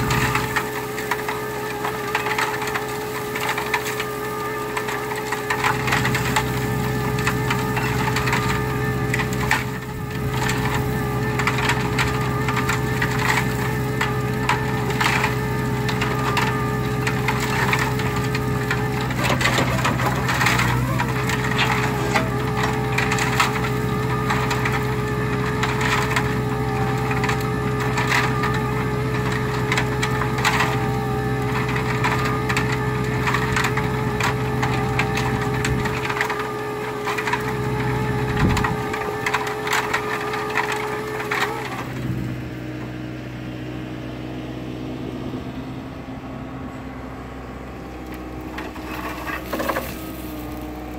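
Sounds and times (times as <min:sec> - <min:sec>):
wood chips rattling in drum: 0:00.0 - 0:42.3, 0:48.2 - 0:50.9
engine hum: 0:00.0 - 0:50.9
hydraulic whine: 0:00.0 - 0:50.9.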